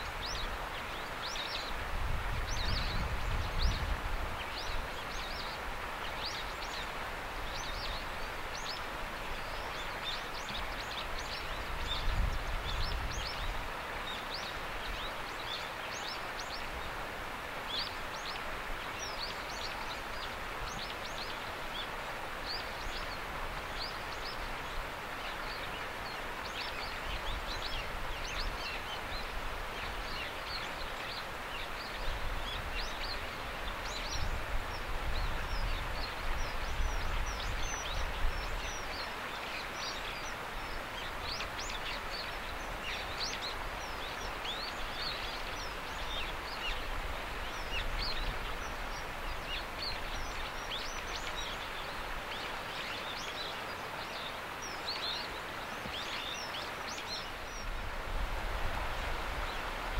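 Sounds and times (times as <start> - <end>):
flowing water rushing: 0.0 - 59.9
small birds chirping: 0.0 - 59.9.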